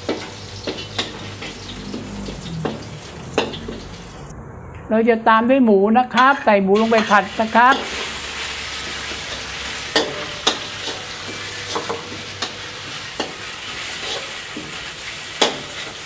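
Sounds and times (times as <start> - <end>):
meat sizzling in hot oil: 0.0 - 4.3, 6.8 - 16.0.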